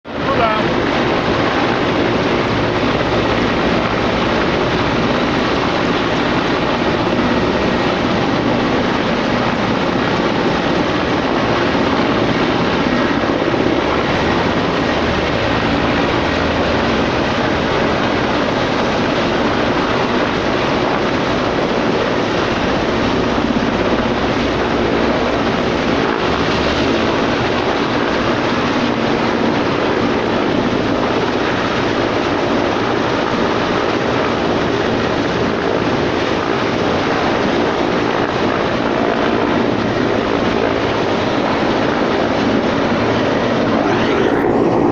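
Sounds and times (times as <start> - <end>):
helicopter rotor and engine: 0.0 - 44.9.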